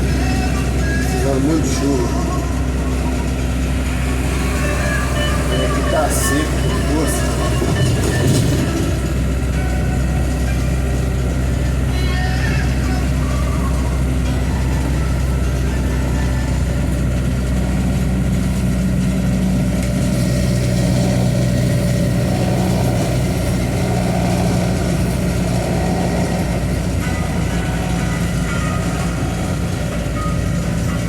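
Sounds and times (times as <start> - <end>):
diesel truck engine running: 0.0 - 31.0
road noise: 0.0 - 31.0.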